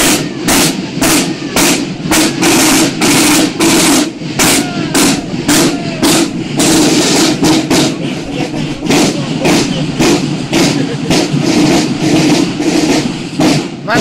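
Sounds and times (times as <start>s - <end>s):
marching snare drums: 0.0s - 14.0s.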